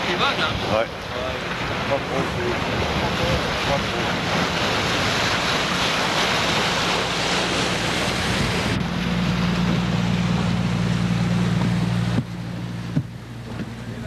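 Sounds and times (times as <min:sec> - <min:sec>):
low engine hum: 0:00.0 - 0:14.0
waves slapping around a boat: 0:00.0 - 0:14.0
wind buffeting microphone: 0:00.0 - 0:14.0.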